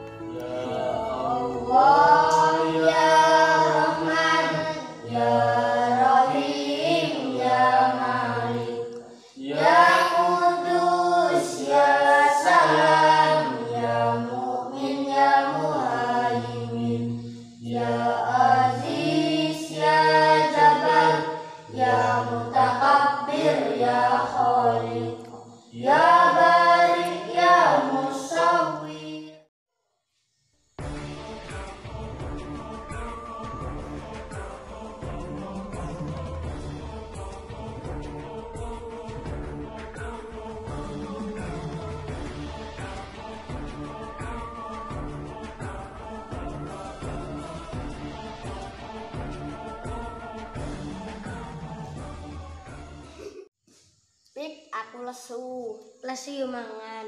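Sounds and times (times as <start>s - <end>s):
group singing in harmony: 0.0s - 29.5s, 30.8s - 53.4s.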